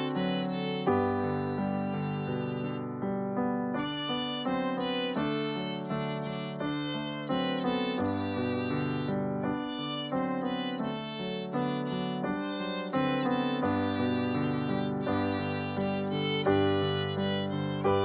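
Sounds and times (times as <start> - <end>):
violins playing a melody: 0.0 - 2.9, 3.8 - 18.0.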